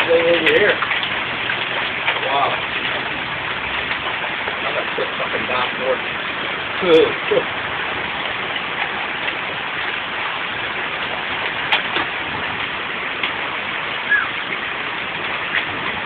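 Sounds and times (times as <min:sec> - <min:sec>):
hailstones ticking: 0:00.0 - 0:16.0
heavy rain on wooden deck: 0:00.0 - 0:16.0.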